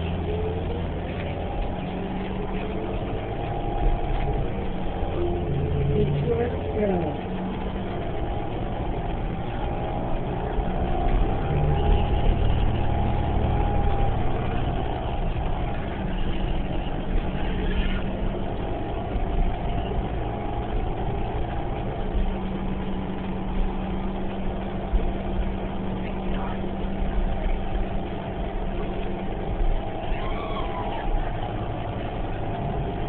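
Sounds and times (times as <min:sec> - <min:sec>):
bus drivetrain low hum: 0:00.0 - 0:33.0
steady tones: 0:00.0 - 0:33.0.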